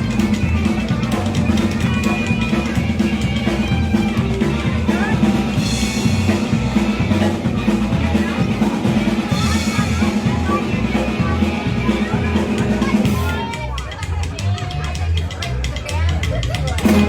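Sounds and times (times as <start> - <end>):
electric guitar: 0.0 - 15.0, 16.2 - 17.0
bass guitar: 0.0 - 17.0
drum kit beat: 0.0 - 17.0.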